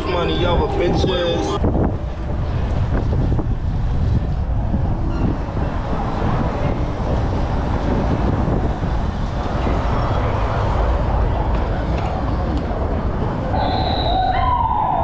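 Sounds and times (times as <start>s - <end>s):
road noise: 0.0s - 15.0s
wind buffeting microphone: 0.0s - 15.0s.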